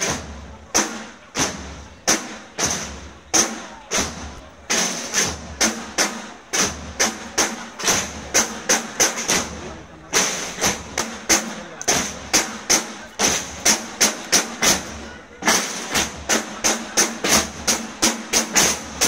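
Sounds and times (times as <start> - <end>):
snare drums march beat: 0.0 - 19.0.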